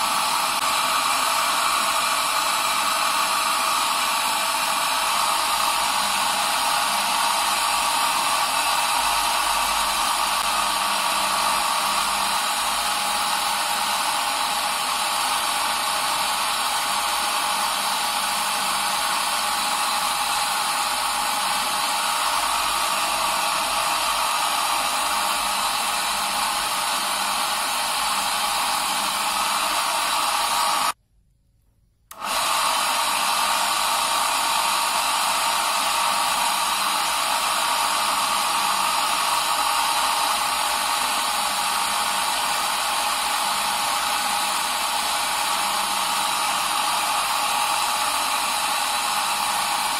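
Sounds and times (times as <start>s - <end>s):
heat gun blowing hiss: 0.0s - 31.0s, 32.1s - 49.9s.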